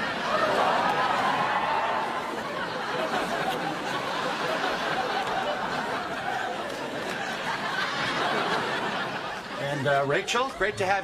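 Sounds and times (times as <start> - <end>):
studio audience laughing: 0.0 - 10.7.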